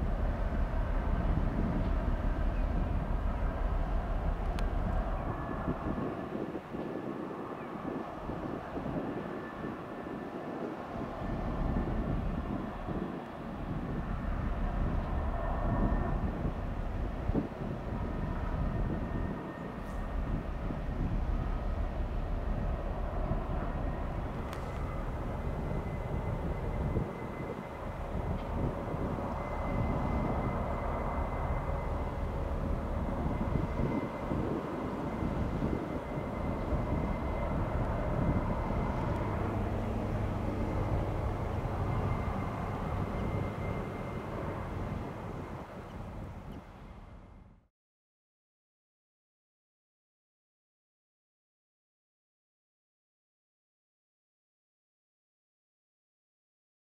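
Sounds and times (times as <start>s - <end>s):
wind buffeting microphone: 0.0s - 47.5s
drone of ship engines: 0.0s - 47.7s.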